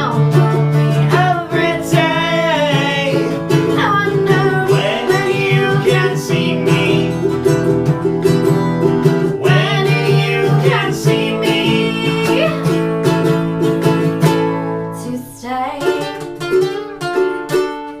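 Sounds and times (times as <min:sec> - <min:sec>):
acoustic guitar plucking: 0:00.0 - 0:18.0
ukulele plucking: 0:00.0 - 0:18.0.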